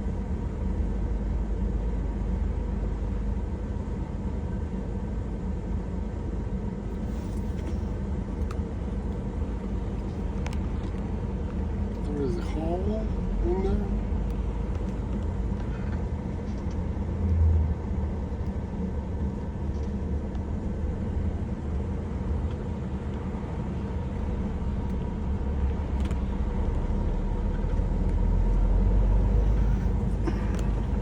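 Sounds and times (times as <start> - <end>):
steady hum: 0.0 - 31.0
vehicle engine and road rumble: 0.0 - 31.0.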